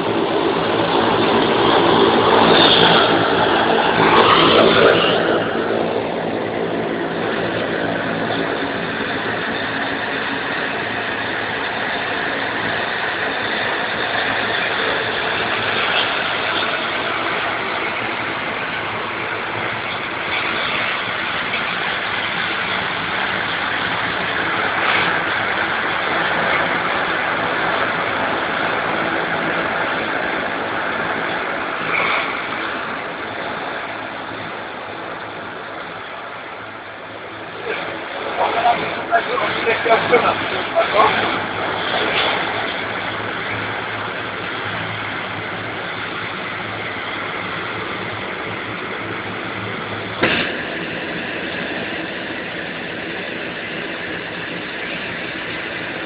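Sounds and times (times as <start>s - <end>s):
vehicle engine hum: 0.0s - 56.0s
water rushing hiss: 0.0s - 56.0s.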